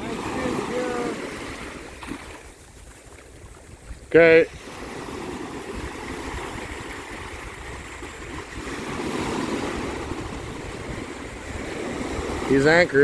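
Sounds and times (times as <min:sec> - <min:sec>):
sea water rushing around boat: 0:00.0 - 0:13.0
wind: 0:00.0 - 0:13.0.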